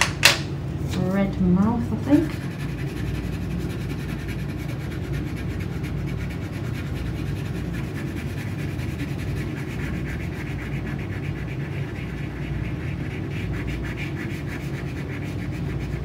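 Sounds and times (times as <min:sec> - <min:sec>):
crayon scribbling on paper: 0:02.2 - 0:16.0.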